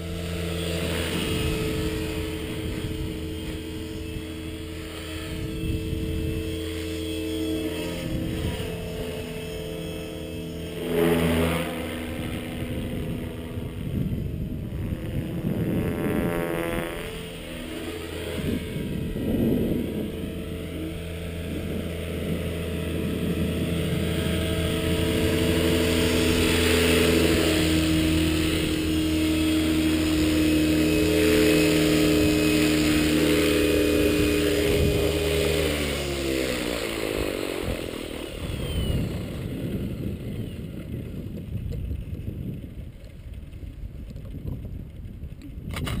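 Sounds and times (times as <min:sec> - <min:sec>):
faint rustle of coasting blades: 0:00.0 - 0:46.0
rc helicopter motor whine: 0:00.0 - 0:46.0
rotor spooling down: 0:00.0 - 0:46.0.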